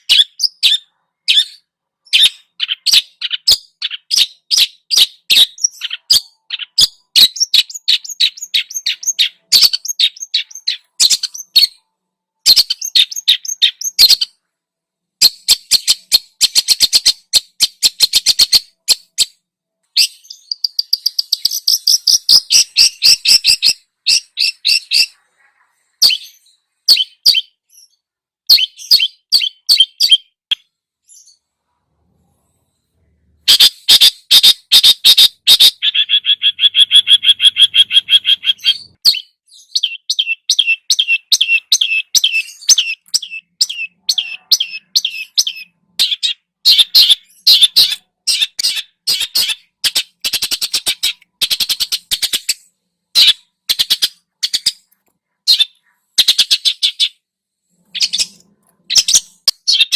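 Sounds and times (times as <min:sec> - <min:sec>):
birds chirping and trilling: 0:00.0 - 0:14.6, 0:15.2 - 0:59.9.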